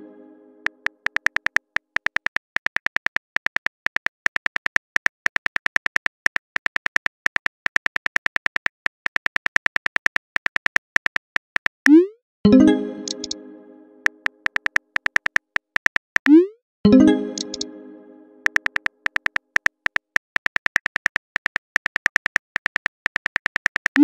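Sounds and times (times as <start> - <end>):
phone keyboard typing taps: 0.6 - 11.8, 13.0 - 13.4, 14.0 - 16.3, 17.3 - 17.7, 18.4 - 24.0.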